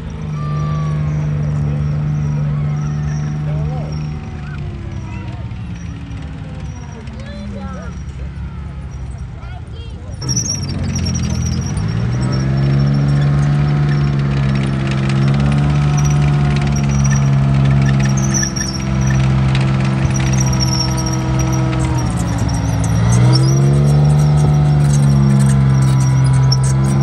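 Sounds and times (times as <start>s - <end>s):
tracked vehicle engine drone: 0.0s - 27.0s
tracks squealing and clattering: 0.0s - 27.0s.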